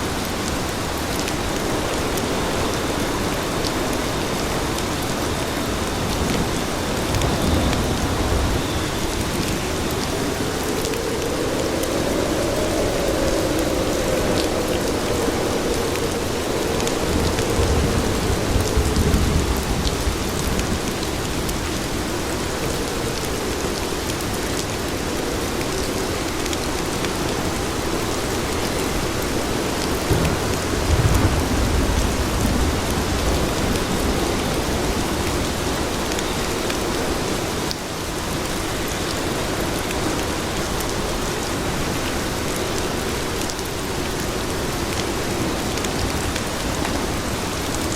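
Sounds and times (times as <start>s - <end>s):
steady rain on streets: 0.0s - 47.9s.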